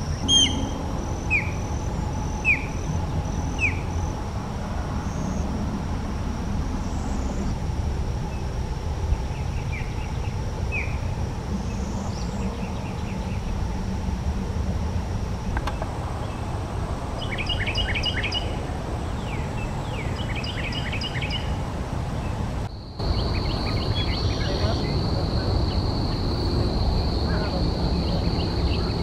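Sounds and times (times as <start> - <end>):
birds calling: 0.0 - 4.3, 8.2 - 13.8, 15.4 - 29.0
low outdoor rumble: 0.0 - 29.0.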